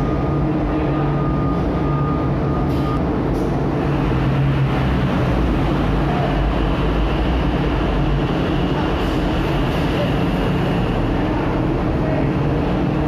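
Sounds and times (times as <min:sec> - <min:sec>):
heavy diesel truck engines rumbling: 0:00.0 - 0:13.0.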